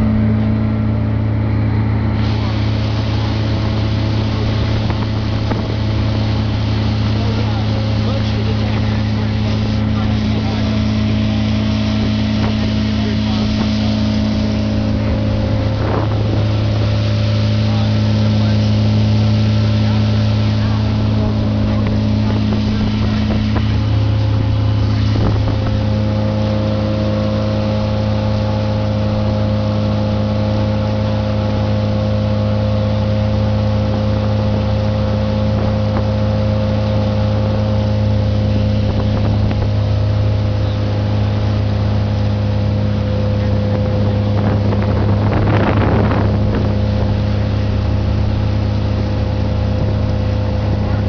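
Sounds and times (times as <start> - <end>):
motorboat engine droning: 0.0 - 51.0.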